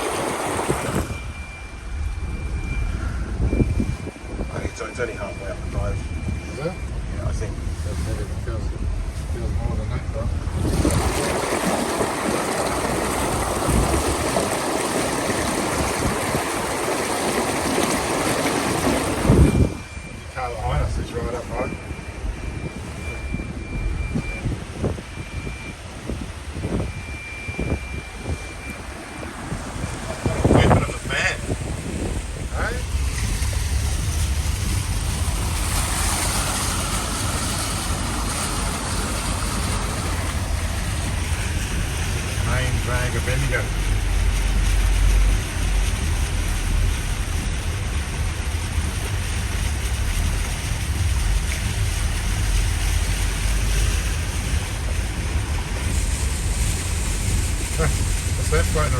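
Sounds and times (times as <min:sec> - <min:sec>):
floodwater rushing: 0:00.0 - 0:58.9
vehicle engine rumble: 0:00.0 - 0:58.9.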